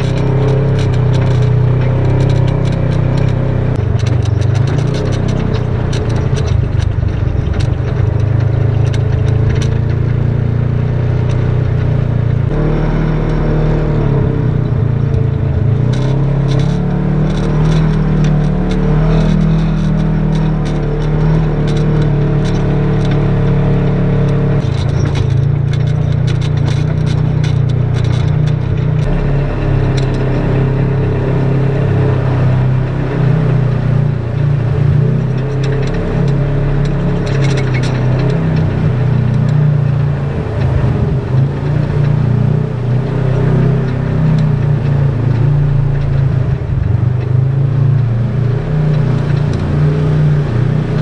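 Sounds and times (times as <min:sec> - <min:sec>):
off-road vehicle engine running: 0:00.0 - 0:51.0
sharp clicks and rattles: 0:00.0 - 0:51.0.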